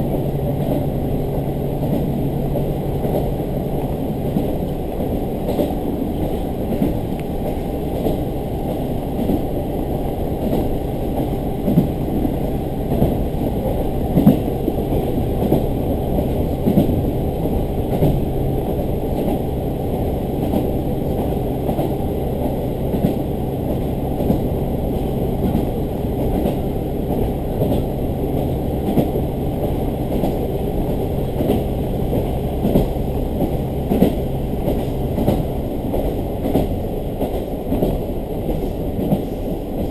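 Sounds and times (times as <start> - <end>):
railcar engine hum: 0.0 - 39.9.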